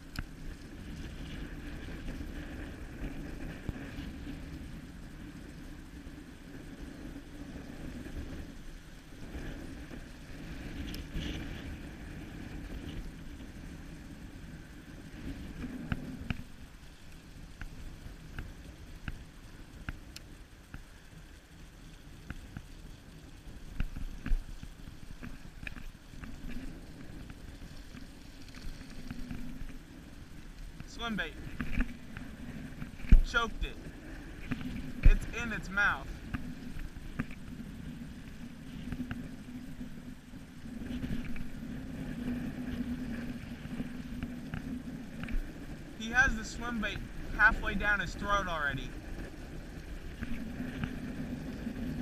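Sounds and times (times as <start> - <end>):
wind rumble on microphone: 0.0 - 52.0.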